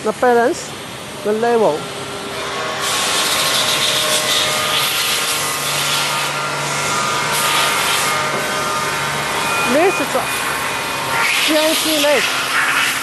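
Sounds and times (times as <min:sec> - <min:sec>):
low steady machine hum: 0:00.0 - 0:13.0.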